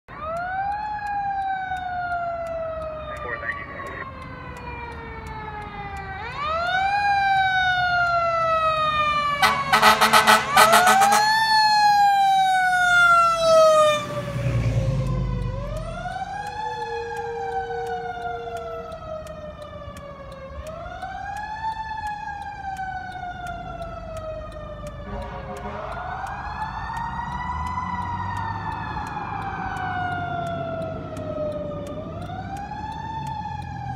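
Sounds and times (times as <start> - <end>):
fire engine siren wailing: 0.1 - 33.9.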